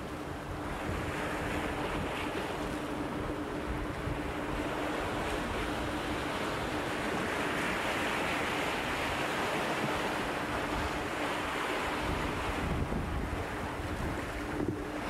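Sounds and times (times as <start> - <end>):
faint steady hum: 0.0 - 15.0
wind buffeting microphone: 0.0 - 15.0.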